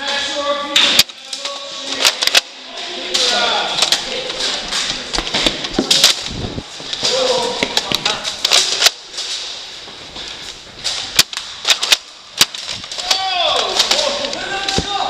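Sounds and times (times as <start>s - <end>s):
indistinct voices: 0.0s - 15.0s.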